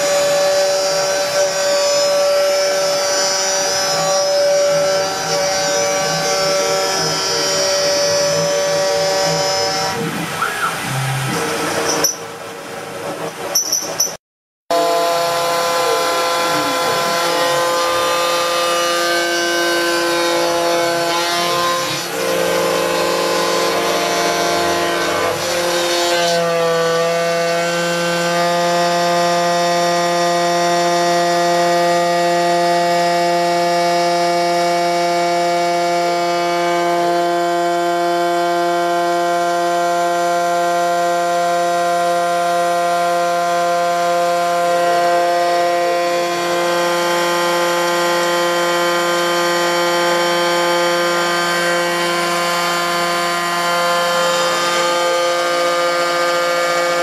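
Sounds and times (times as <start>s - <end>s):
milling machine cutting metal: 0.0s - 40.1s, 41.4s - 57.0s.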